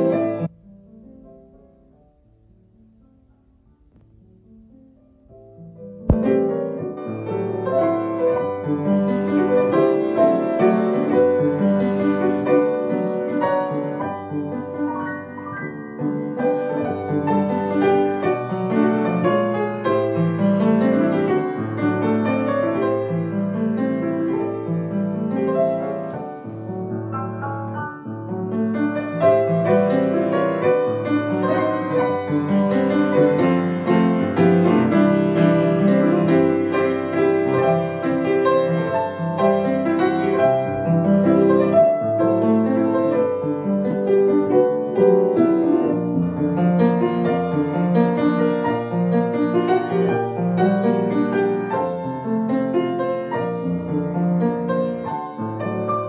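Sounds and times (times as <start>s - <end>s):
solo piano: 0.0s - 56.0s.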